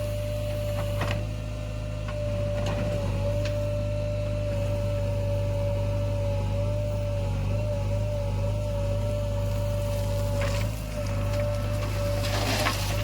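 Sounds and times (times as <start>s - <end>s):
backhoe loader engine drone: 0.0s - 13.0s.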